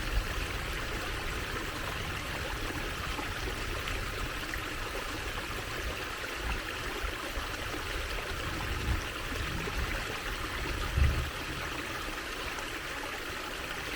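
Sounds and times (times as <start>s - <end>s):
water trickling: 0.0s - 13.9s.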